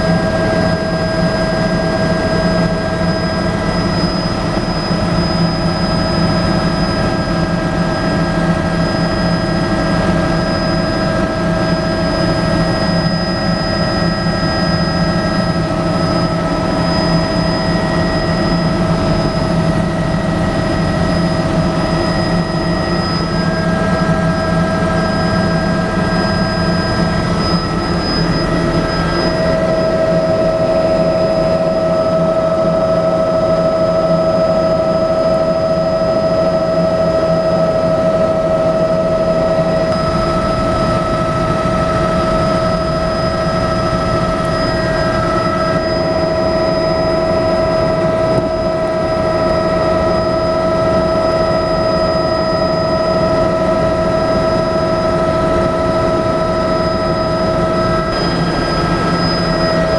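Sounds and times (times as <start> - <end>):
helicopter turbine whine: 0.0 - 59.9
rotor and airflow noise: 0.0 - 59.9.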